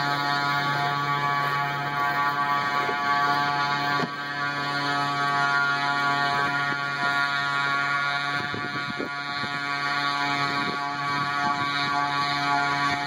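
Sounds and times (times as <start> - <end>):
two-stroke engine buzzing: 0.0 - 13.0.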